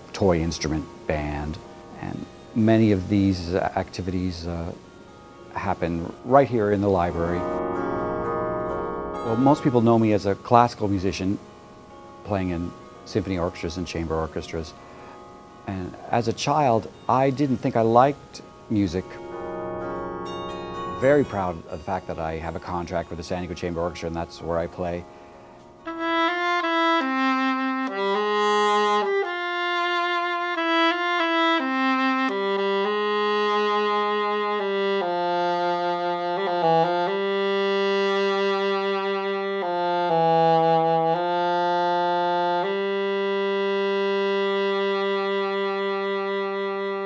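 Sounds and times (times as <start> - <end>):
slow wind instrument melody: 0.0 - 47.0.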